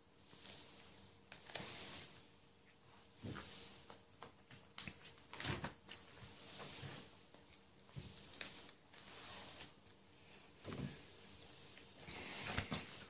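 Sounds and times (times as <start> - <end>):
plastic sleeves rustling and crinkling: 0.2 - 13.0.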